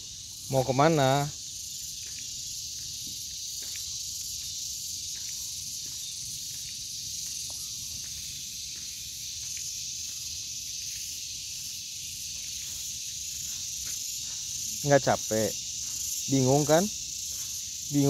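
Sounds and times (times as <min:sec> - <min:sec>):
insect chorus hissing: 0:00.0 - 0:18.0
footsteps on path: 0:01.5 - 0:18.0.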